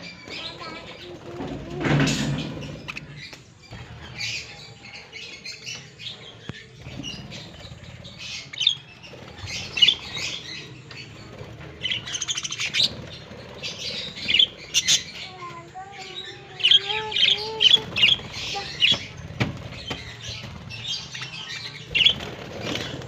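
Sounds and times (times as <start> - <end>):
budgerigars chirping: 2.6 - 15.3, 16.3 - 23.0.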